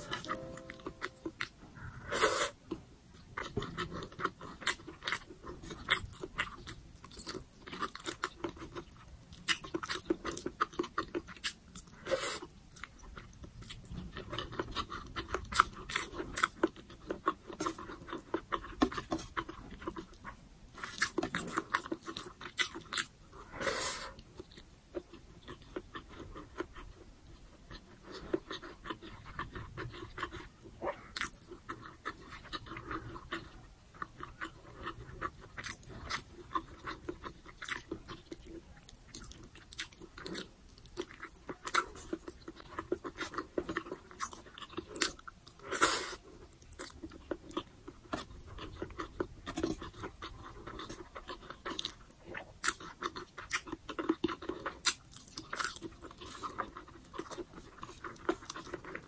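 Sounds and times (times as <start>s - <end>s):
close-miked chewing: 0.0s - 59.0s.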